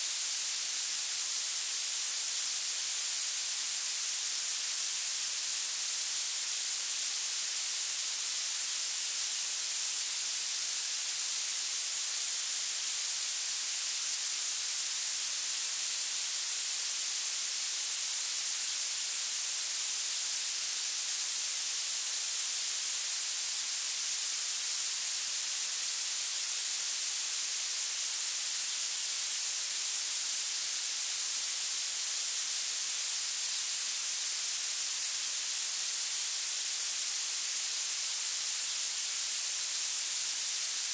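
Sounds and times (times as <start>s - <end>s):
bright synthetic hiss: 0.0s - 40.9s.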